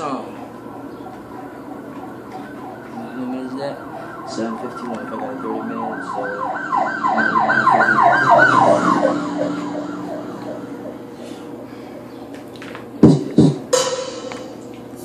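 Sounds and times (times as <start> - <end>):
emergency siren yelping: 0.0 - 12.4.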